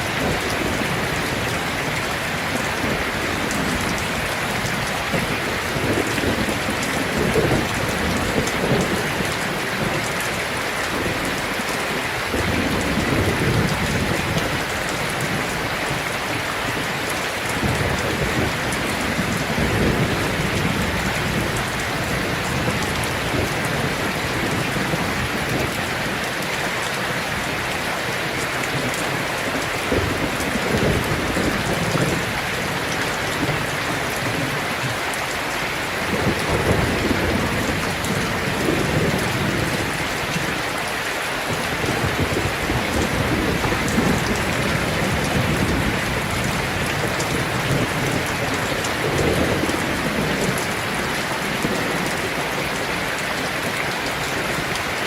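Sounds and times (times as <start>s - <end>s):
rumbles of thunder: 0.0s - 16.1s, 17.4s - 26.6s, 28.1s - 34.7s, 35.8s - 40.8s, 41.5s - 54.7s
heavy rain on a tin roof: 0.0s - 55.0s.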